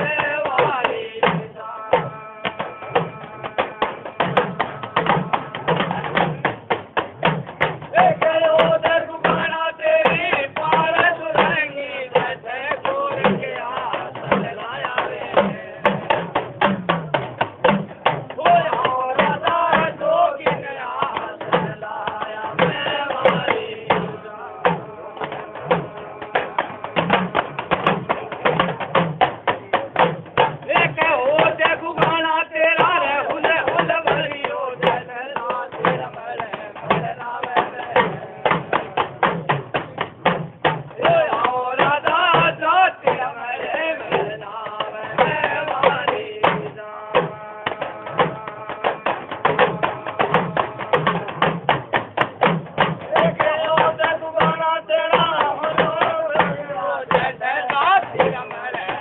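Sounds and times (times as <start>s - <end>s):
man singing: 0.0s - 59.0s
sharp clicking percussion: 0.0s - 59.0s
steady drum beat: 0.0s - 59.0s.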